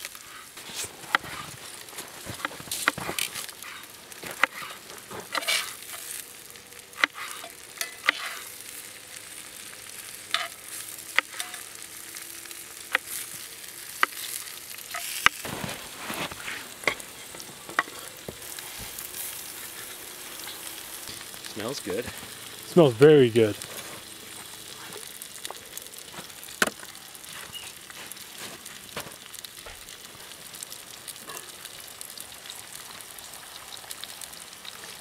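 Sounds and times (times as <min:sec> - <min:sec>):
food sizzling in a skillet: 0:00.0 - 0:35.0.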